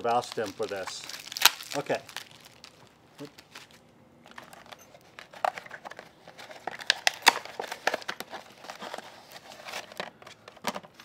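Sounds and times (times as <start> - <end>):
paper wrapping crinkling: 0.0 - 11.0.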